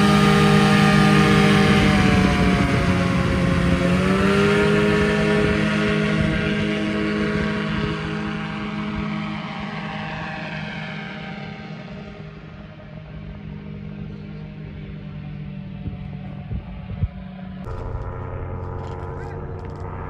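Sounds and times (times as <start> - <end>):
propeller engine droning: 0.0 - 20.0.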